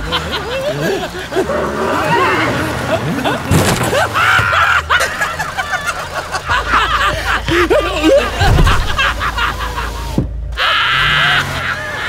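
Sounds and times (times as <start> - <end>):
car rumbling: 0.0 - 12.0
voices snickering and chuckling: 0.0 - 12.0.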